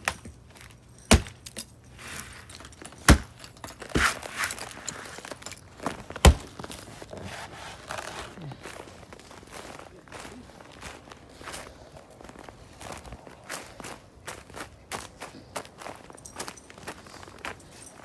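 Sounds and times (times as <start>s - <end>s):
crunching footsteps: 0.0s - 18.0s.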